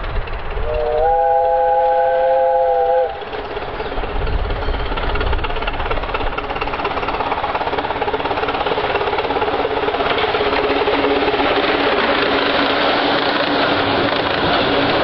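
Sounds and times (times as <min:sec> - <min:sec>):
miniature train running: 0:00.0 - 0:15.0.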